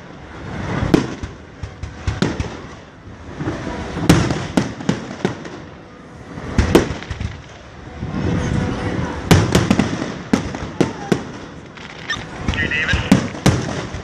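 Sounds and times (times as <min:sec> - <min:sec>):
fireworks crackling pops: 0:00.0 - 0:05.7, 0:06.4 - 0:08.4, 0:09.3 - 0:14.0
fireworks bangs: 0:00.0 - 0:14.0.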